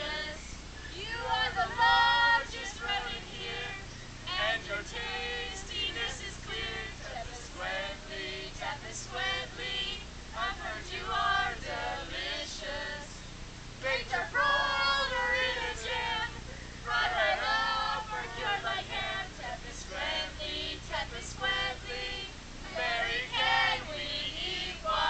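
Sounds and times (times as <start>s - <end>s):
group singing unaccompanied: 0.0s - 13.2s, 13.8s - 25.0s.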